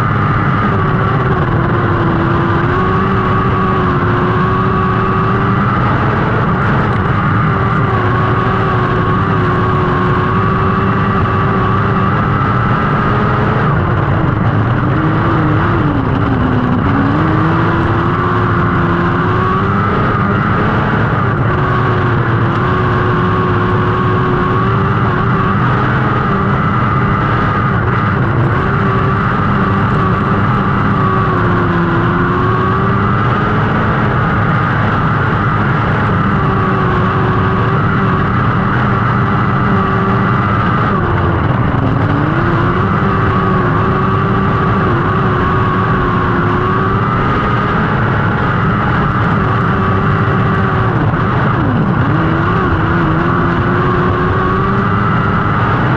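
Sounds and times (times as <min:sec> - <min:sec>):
race car engine running hard: 0:00.0 - 0:55.9.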